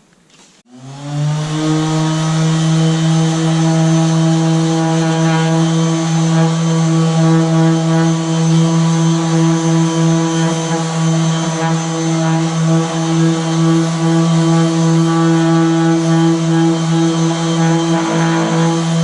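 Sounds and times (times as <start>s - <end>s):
power sander whining: 0.7s - 19.0s.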